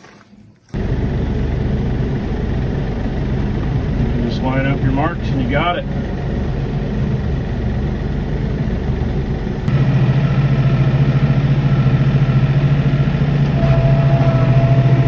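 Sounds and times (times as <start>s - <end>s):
tractor engine running: 0.7s - 15.0s.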